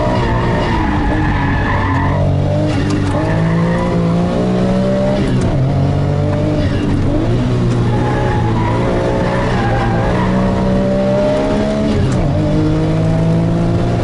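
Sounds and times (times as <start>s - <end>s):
sports car engine accelerating: 0.0s - 14.0s.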